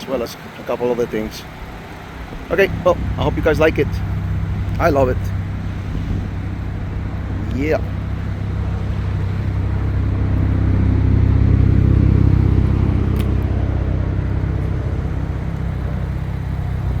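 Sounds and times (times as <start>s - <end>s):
truck engine low drone: 0.0s - 17.0s.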